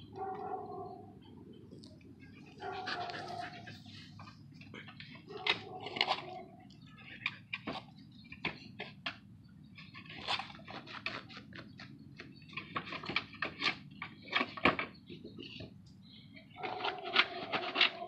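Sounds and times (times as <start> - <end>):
dog claws scratching on wood: 2.3 - 15.7, 16.4 - 18.0.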